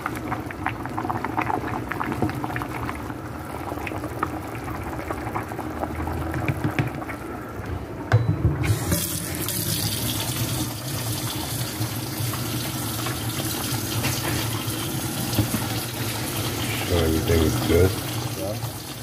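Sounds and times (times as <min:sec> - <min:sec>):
stew bubbling in a pot: 0:00.0 - 0:07.6, 0:08.7 - 0:19.0.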